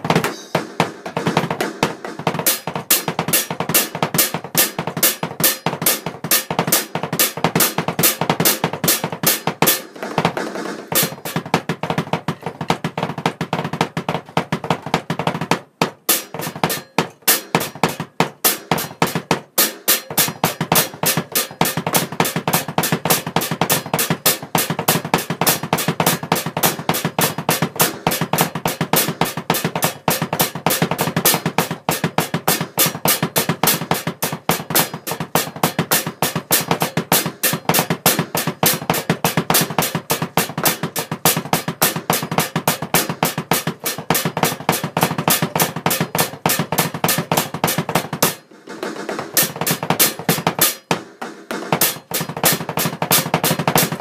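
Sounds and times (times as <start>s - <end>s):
electronic drum kit played fast: 0.0s - 54.0s.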